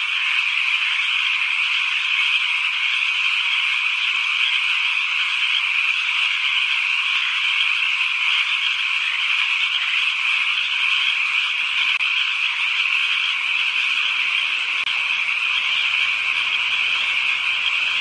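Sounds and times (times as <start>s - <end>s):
chorus of frogs calling: 0.0s - 18.0s.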